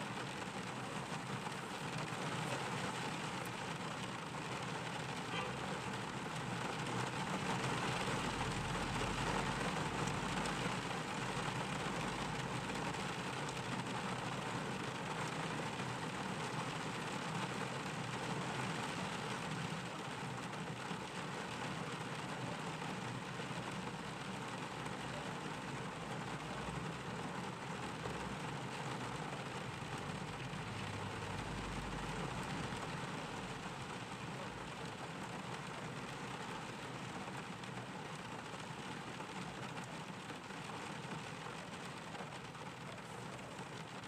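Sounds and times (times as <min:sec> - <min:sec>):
gentle rain falling: 0:00.0 - 0:44.0.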